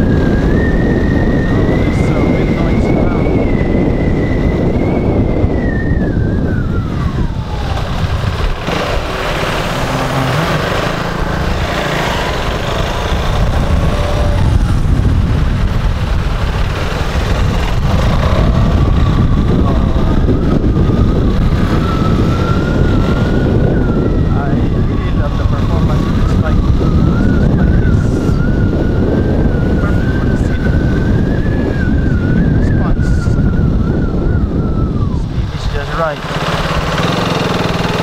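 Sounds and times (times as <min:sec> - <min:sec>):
faint whine: 0:00.0 - 0:36.2
motorcycle engine: 0:00.0 - 0:38.0
traffic: 0:00.0 - 0:38.0
wind rumbling on microphone: 0:00.0 - 0:38.0.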